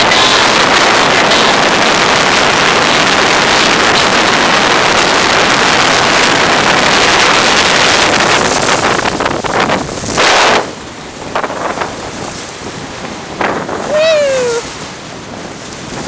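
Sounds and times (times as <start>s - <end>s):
water rushing along boat hull: 0.0s - 16.0s
wind rushing across microphone: 0.0s - 16.0s.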